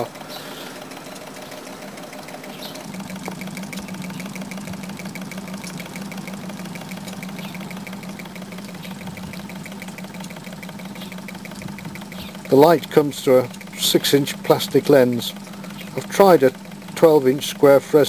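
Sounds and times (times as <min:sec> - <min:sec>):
low hum: 0:00.0 - 0:18.0
rapid regular mechanical clicking: 0:00.0 - 0:18.0.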